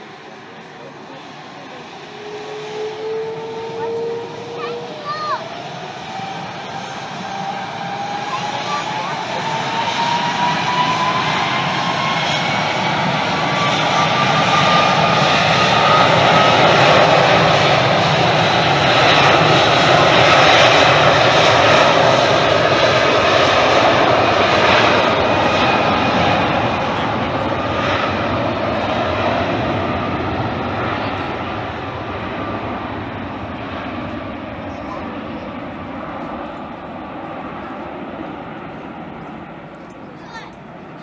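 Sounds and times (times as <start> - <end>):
airliner engines roaring past: 0.0 - 41.0.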